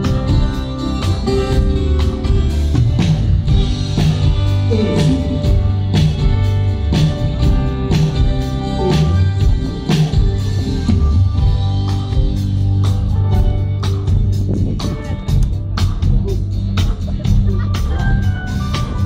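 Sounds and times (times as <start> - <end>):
band playing: 0.0 - 19.0.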